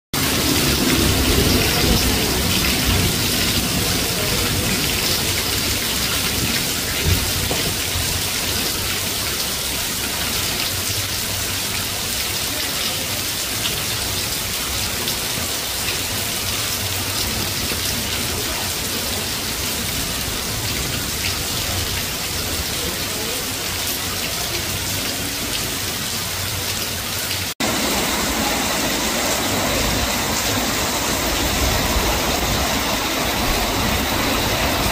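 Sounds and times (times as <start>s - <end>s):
heavy rain splashing on concrete: 0.2s - 34.9s.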